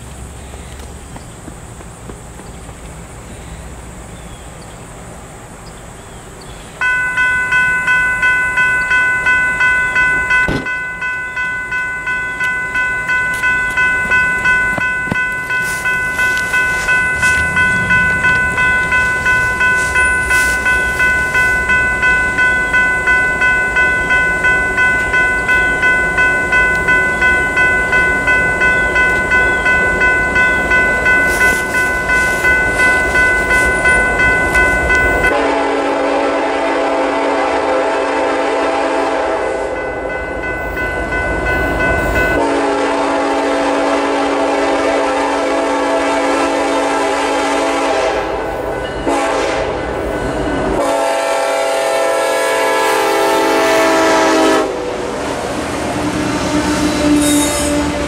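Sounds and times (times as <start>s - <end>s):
railroad crossing bell ringing: 6.7s - 58.0s.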